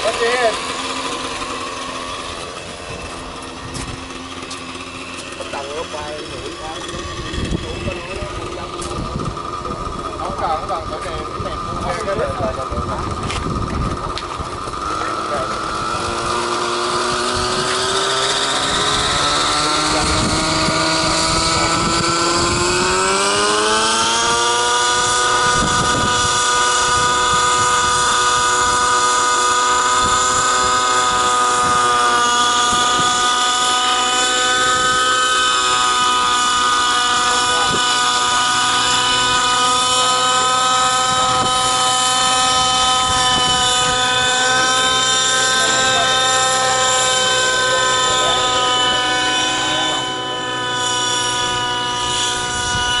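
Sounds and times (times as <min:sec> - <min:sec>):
rc helicopter motor whine: 0:00.0 - 0:53.0.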